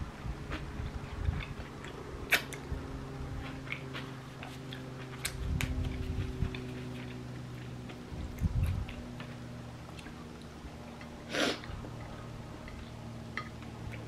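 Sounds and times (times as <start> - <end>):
low steady hum: 0.0 - 14.0
chewing with crunches: 0.4 - 14.0.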